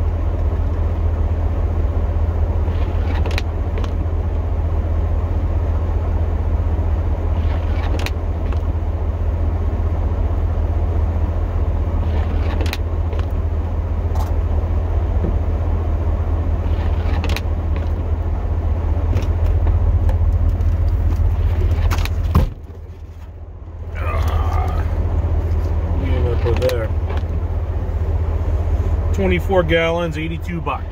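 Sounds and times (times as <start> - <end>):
truck engine idling: 0.0 - 30.9.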